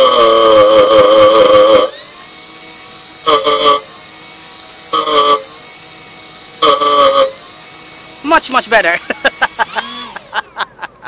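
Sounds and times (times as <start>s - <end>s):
electric propeller motor revving: 0.0s - 11.0s
steady motor whine: 0.0s - 11.0s.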